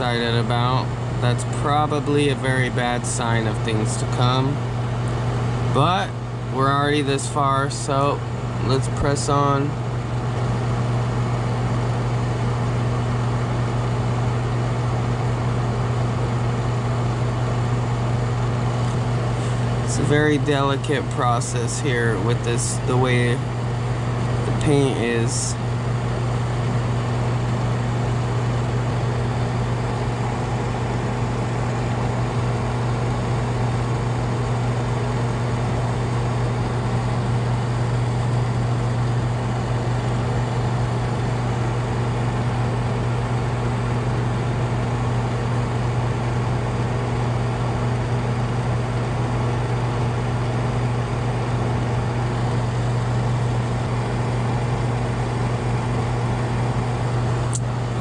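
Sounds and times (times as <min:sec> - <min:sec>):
exhaust fan humming: 0:00.0 - 0:58.0.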